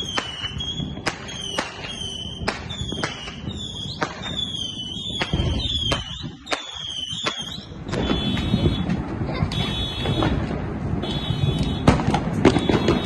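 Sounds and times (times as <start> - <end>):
fireworks bangs: 0.0 - 13.0
fireworks whistling: 0.0 - 13.0.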